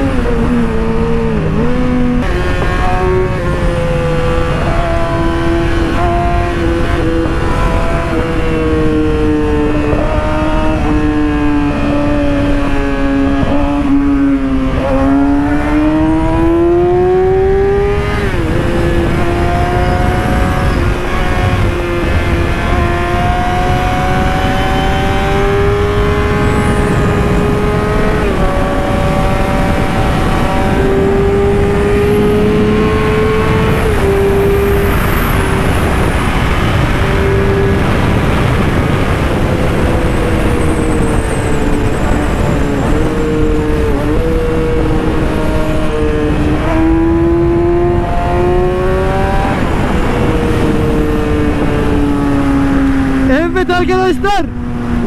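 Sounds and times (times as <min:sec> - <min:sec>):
motorcycle engine at speed: 0:00.0 - 0:53.6, 0:54.5 - 0:55.0
wind rush on microphone: 0:00.0 - 0:55.0.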